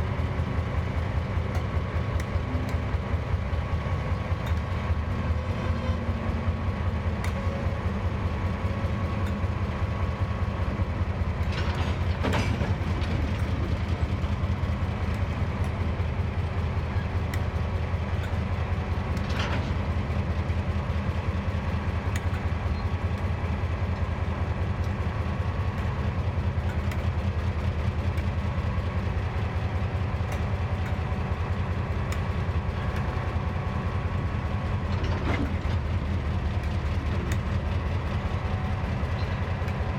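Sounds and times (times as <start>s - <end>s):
locomotive engine drone: 0.0s - 39.9s.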